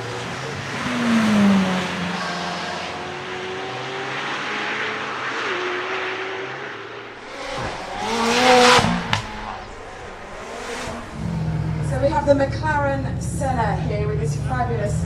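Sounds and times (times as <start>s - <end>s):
sports car engine at speed: 0.0s - 15.0s.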